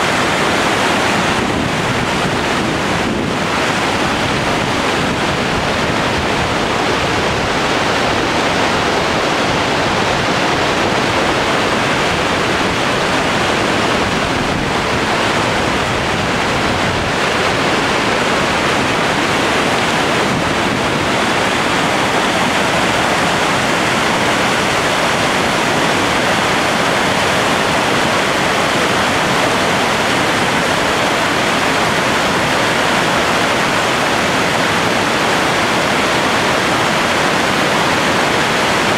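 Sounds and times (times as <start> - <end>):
river rapids roaring: 0.0 - 38.9.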